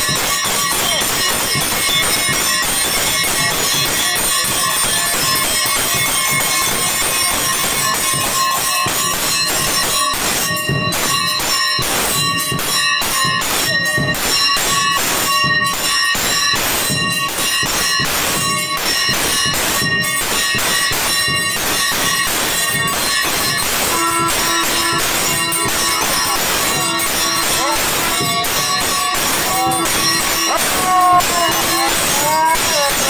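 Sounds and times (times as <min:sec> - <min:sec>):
brass bells ringing: 0:00.0 - 0:33.0.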